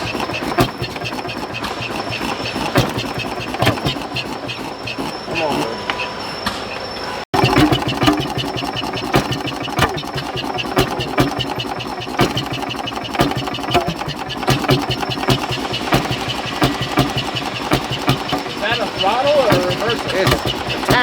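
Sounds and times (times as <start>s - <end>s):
rail speeder engine running: 0.0s - 21.0s.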